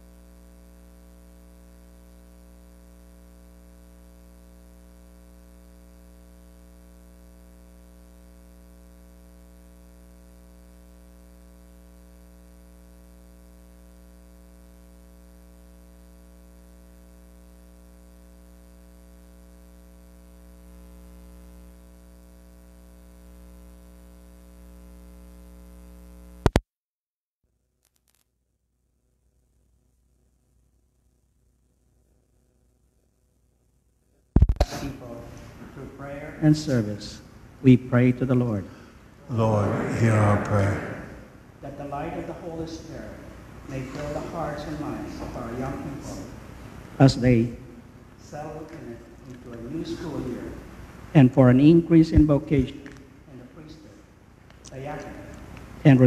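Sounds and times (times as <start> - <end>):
electrical hum and buzz: 0.0 - 26.6, 29.5 - 56.0.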